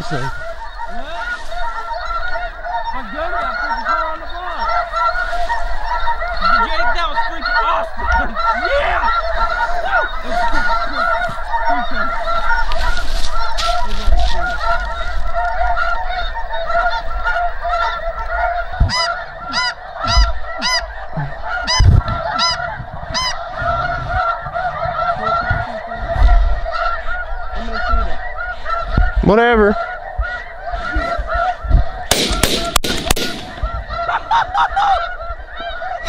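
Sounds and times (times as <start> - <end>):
sharp repeated goose calls: 0.0 - 36.0
snow geese honking: 0.0 - 36.0.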